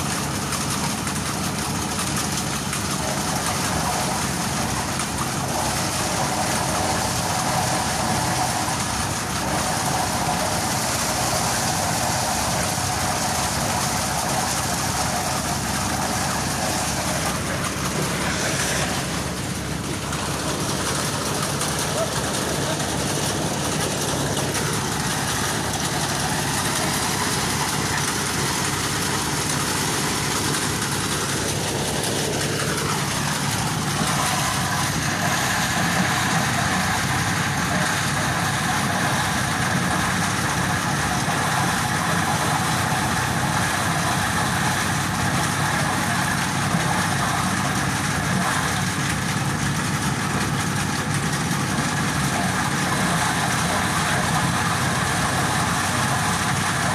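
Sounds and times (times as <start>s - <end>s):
corn thresher engine drone: 0.0s - 56.9s.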